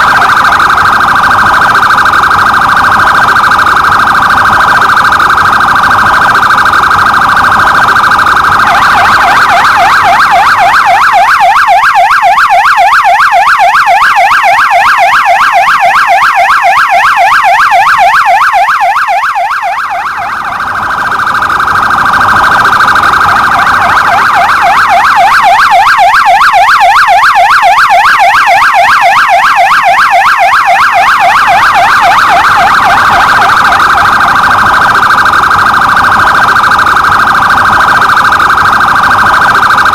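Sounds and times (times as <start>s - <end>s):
police siren wailing and yelping: 0.0s - 39.9s.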